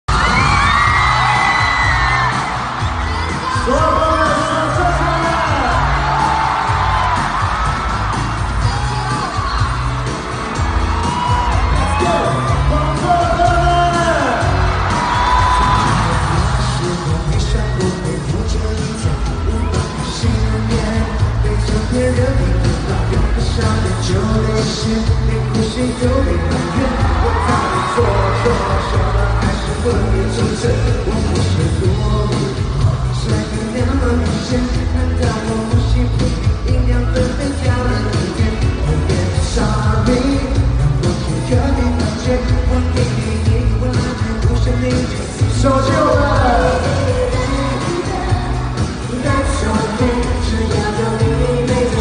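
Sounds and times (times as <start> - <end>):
crowd screaming and whooping: 0.0 - 52.0
live pop music with heavy bass: 0.0 - 52.0.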